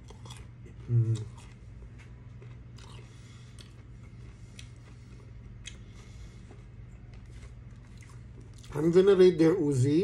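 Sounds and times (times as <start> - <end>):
person chewing food: 0.0 - 8.8
steady low hum: 0.0 - 10.0.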